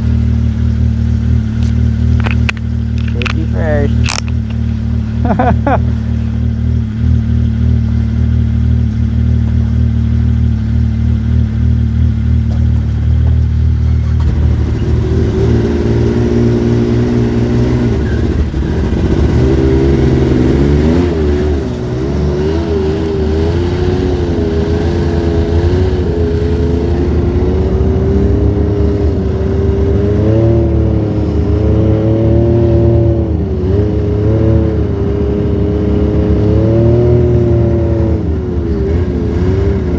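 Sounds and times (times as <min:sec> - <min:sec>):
snowmobile engine idling and revving: 0:00.0 - 0:39.9.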